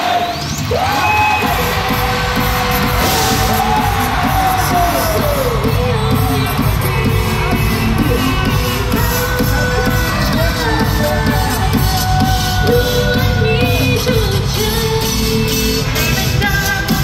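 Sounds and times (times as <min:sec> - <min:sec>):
crowd cheering: 0:00.0 - 0:17.0
live pop music with singing: 0:00.0 - 0:17.0.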